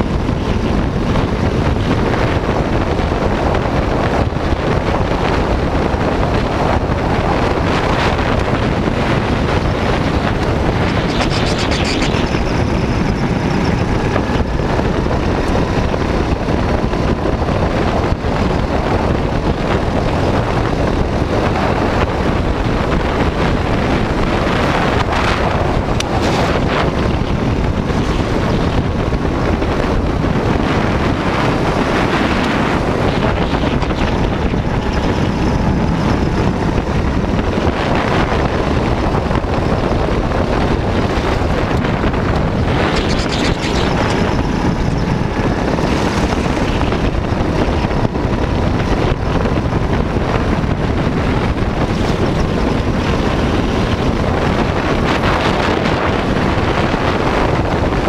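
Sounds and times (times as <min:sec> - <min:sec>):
go-kart engine running: 0:00.0 - 0:58.0
wind buffeting microphone: 0:00.0 - 0:58.0.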